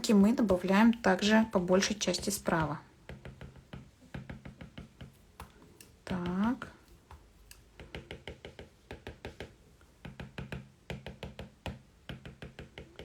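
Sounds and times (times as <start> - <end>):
stylus tapping on glass screen: 1.8 - 13.0.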